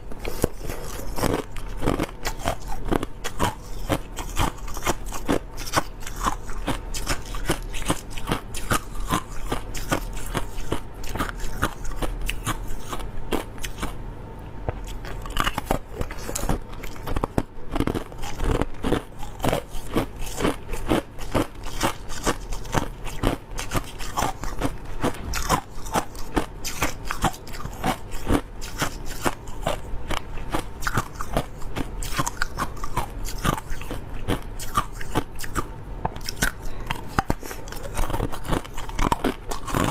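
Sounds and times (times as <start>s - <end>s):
ice being chewed: 0.0s - 14.0s, 14.8s - 39.9s.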